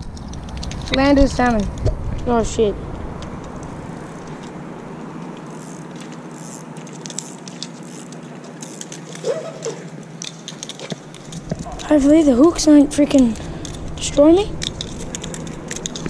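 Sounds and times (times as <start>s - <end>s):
fish flapping: 0.0s - 1.8s, 3.4s - 12.1s, 13.1s - 16.0s.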